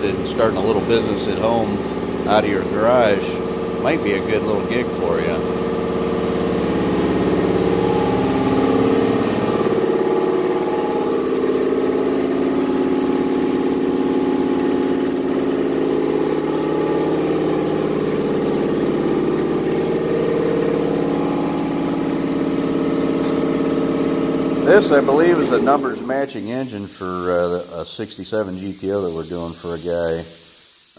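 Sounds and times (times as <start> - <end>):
engine idling: 0.0 - 27.7.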